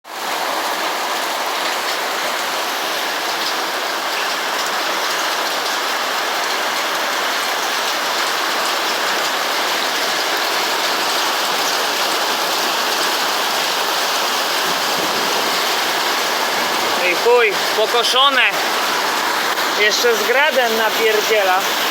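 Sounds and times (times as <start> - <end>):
heavy rain and hail pounding: 0.1 - 21.9.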